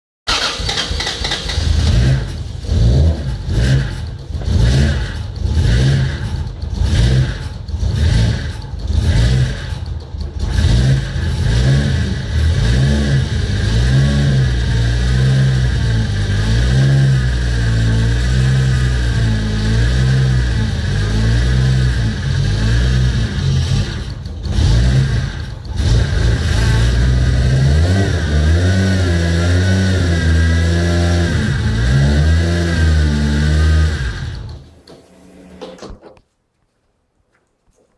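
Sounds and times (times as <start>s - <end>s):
car engine surging: 0.3s - 35.8s.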